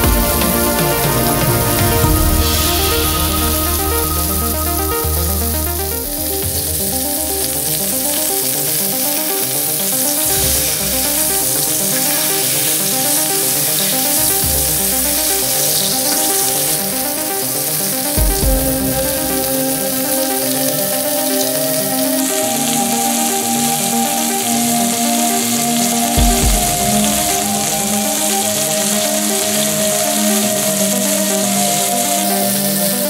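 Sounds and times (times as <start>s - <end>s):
background music: 0.0s - 33.0s
fish sizzling in a pan: 0.0s - 33.0s.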